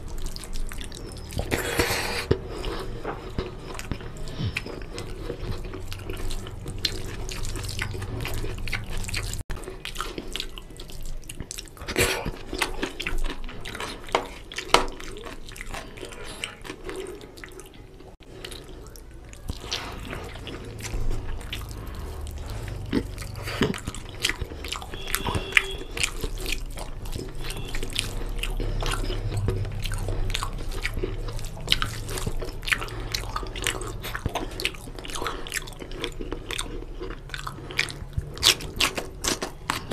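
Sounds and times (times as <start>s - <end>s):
low steady hum: 0.0s - 39.9s
wet chewing and lip-smacking: 0.0s - 39.9s.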